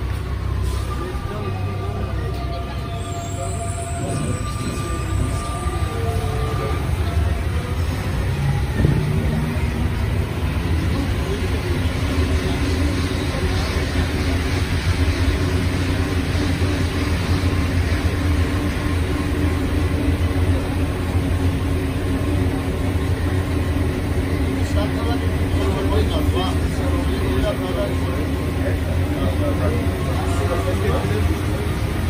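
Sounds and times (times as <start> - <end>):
metro train running: 0.0 - 32.0.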